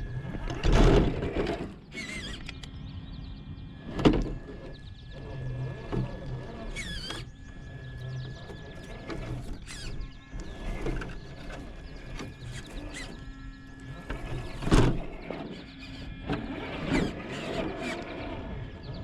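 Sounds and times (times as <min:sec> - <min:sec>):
birds chirping: 0:00.0 - 0:19.0
electric motor and gears whirring: 0:00.0 - 0:19.0.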